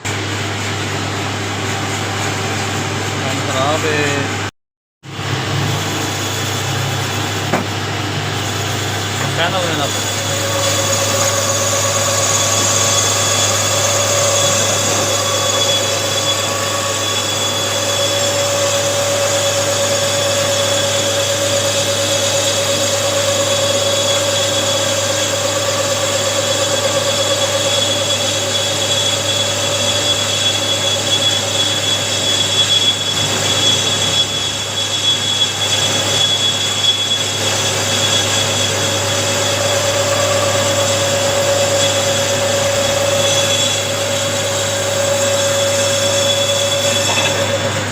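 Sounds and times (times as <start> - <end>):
machine running with whine: 5.1 - 47.9.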